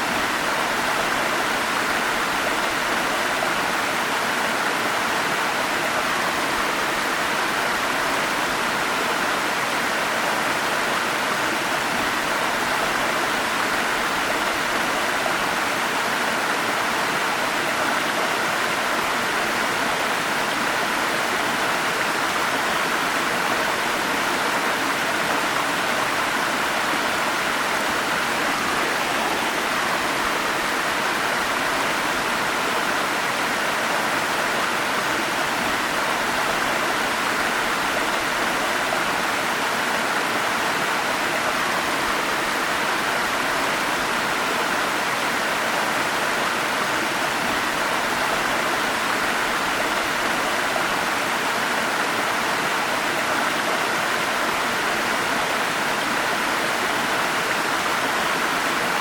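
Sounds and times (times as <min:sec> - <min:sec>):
forest stream rushing: 0:00.0 - 0:59.0.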